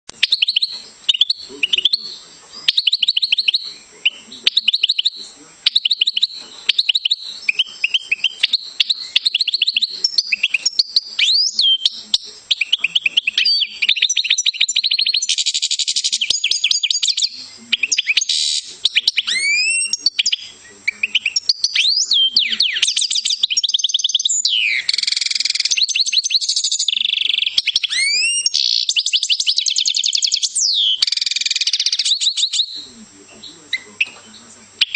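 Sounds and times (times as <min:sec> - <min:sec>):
goldfinch singing: 0:00.1 - 0:34.9.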